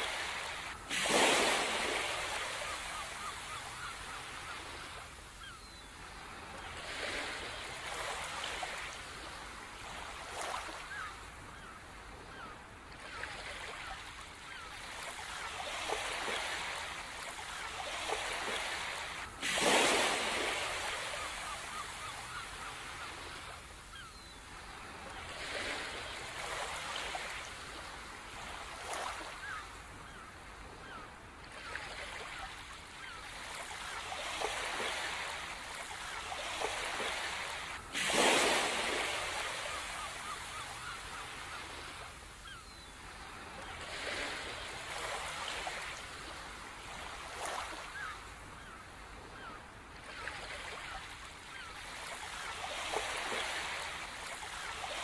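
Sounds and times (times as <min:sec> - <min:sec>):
faint bird calls: 0:00.0 - 0:55.0
sea waves breaking on shore: 0:00.0 - 0:55.0.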